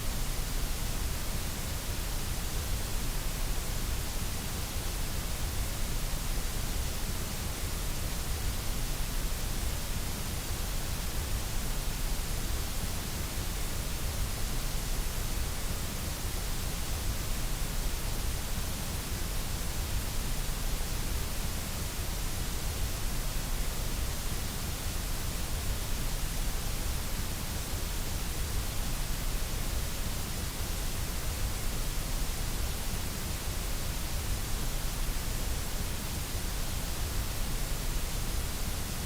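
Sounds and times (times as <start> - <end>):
white noise hiss: 0.0 - 39.0.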